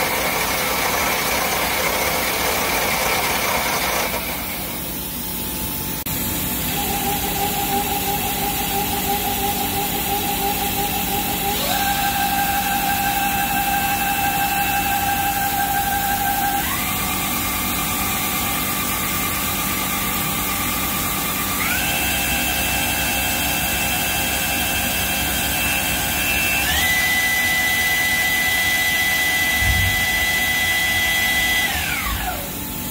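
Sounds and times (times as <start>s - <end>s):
lathe spindle whine: 0.0s - 32.9s.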